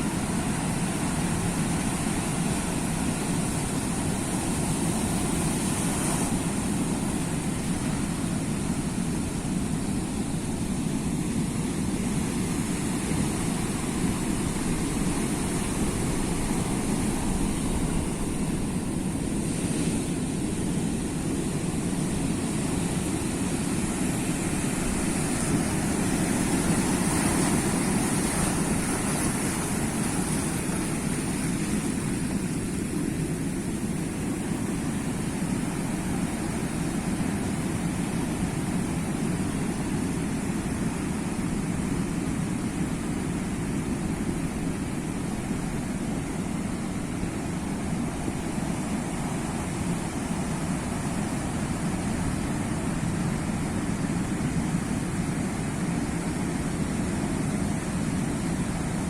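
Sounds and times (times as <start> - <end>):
sea waves washing on shore: 0.0 - 59.0.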